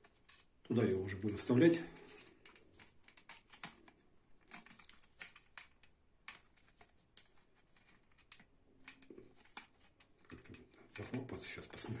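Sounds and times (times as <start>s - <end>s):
plastic cover rustling: 0.0s - 12.0s.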